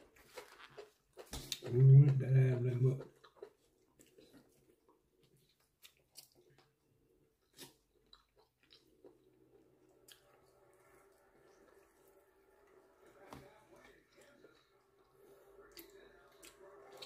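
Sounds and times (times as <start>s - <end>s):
chewing meat: 0.0s - 17.0s.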